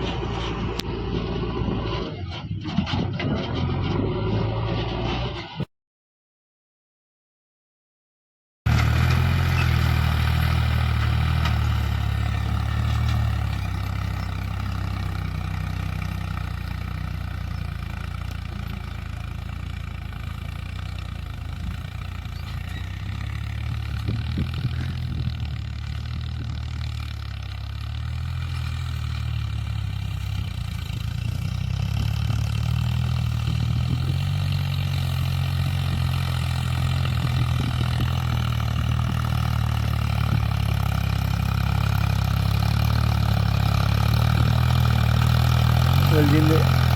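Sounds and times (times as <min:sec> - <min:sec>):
heavy diesel engine running: 0:00.0 - 0:05.1, 0:08.7 - 0:46.9.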